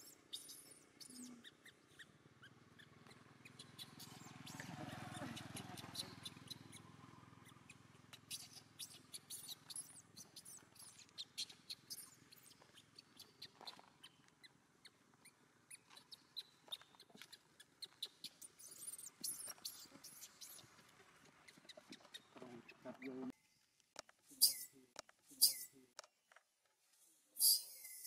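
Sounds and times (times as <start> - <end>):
baby monkey squeaking: 0.0 - 23.3, 24.3 - 24.7, 25.3 - 25.7, 27.4 - 28.0.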